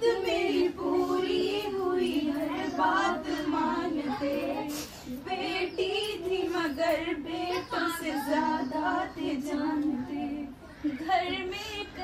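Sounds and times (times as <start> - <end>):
young women singing: 0.0 - 12.0.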